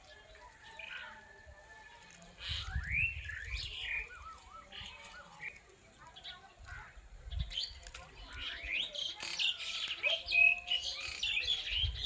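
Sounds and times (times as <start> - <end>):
birds whistling and calling: 0.0 - 12.0.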